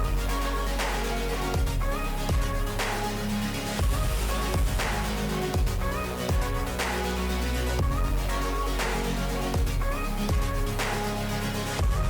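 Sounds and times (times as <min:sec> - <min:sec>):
electronic music with heavy bass beat: 0:00.0 - 0:12.0.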